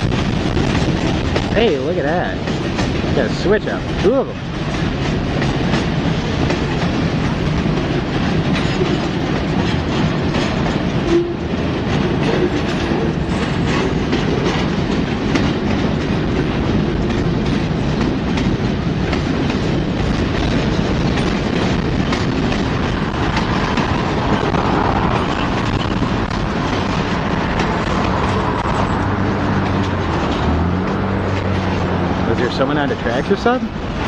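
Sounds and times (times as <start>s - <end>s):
freight train rolling past: 0.0s - 34.0s
wheels clicking over rail joints: 0.0s - 34.0s.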